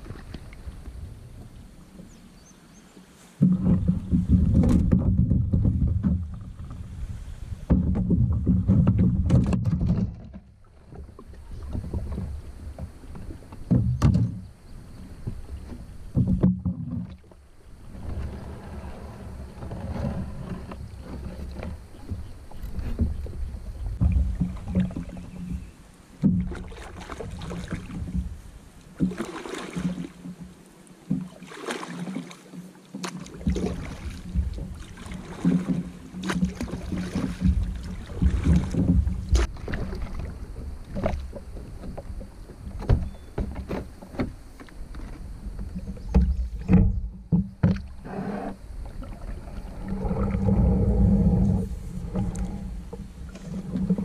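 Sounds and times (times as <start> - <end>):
paddle splashing in water: 0.0 - 54.0.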